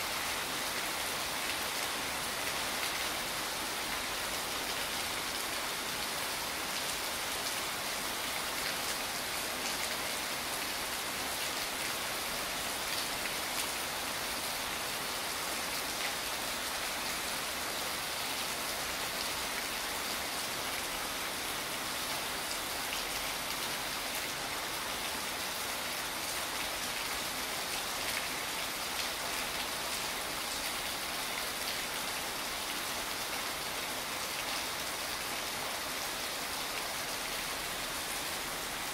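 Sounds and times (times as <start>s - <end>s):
rain on stone paving: 0.0s - 38.9s.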